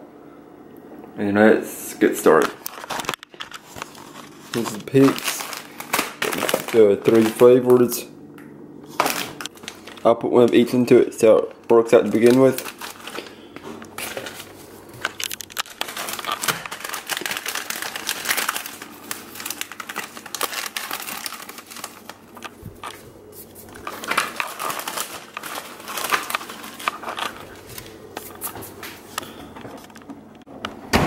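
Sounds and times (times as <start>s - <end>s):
plastic wrapper crinkling: 2.3s - 8.0s, 8.9s - 30.1s.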